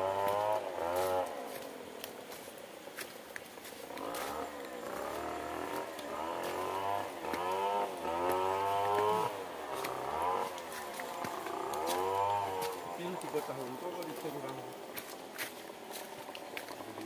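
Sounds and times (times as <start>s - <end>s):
motorcycle engine revving: 0.0s - 1.9s, 3.7s - 17.0s.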